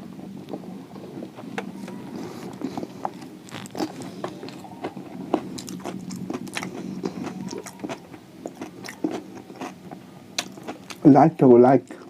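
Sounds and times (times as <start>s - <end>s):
crunchy chewing: 0.0s - 11.2s
low steady hum: 0.0s - 12.0s.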